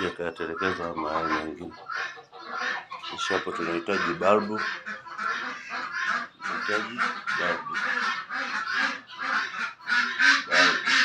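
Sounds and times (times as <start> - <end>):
fowl harsh raspy cries: 0.0 - 11.0.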